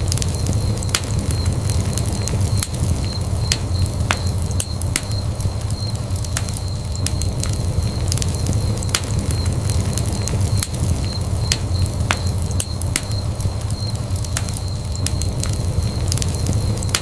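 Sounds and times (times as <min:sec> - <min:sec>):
fire flames rumbling: 0:00.0 - 0:17.0
logs popping and crackling: 0:00.0 - 0:17.0.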